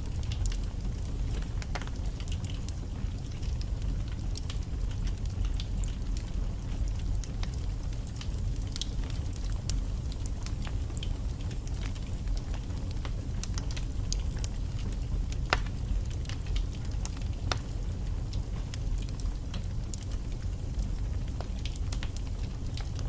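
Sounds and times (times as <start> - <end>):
low rumble of flames: 0.0 - 23.0
logs crackling and popping: 0.1 - 23.0.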